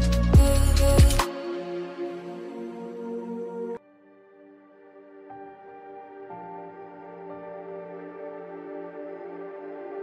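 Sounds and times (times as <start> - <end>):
ambient new-age music: 0.0 - 10.0.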